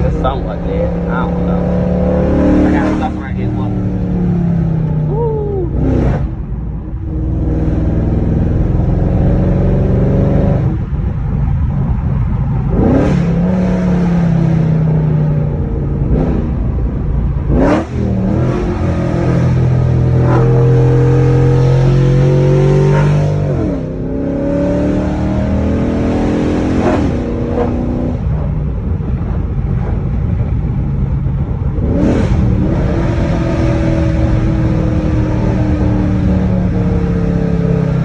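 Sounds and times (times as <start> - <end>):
car engine and exhaust revving: 0.0 - 38.0.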